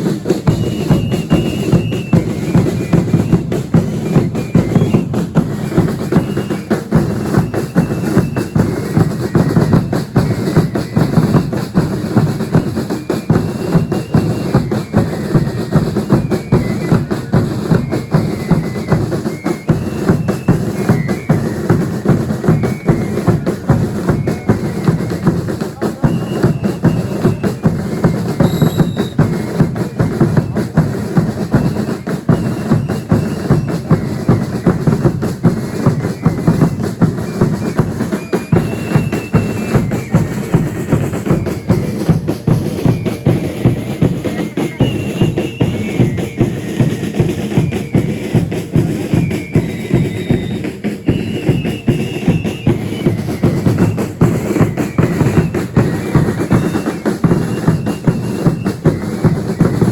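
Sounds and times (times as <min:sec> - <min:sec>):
drums beating fast rhythm: 0:00.0 - 0:59.9.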